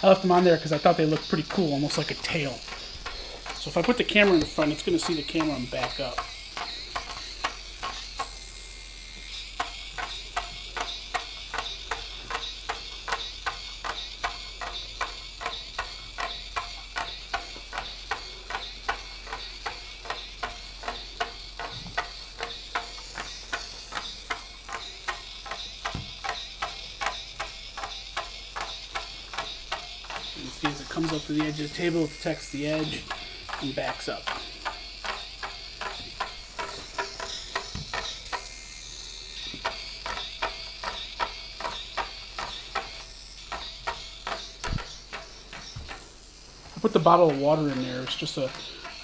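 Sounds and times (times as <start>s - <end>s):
plastic legs clicking: 0.0s - 49.0s
small gear motor whirring: 0.0s - 49.0s.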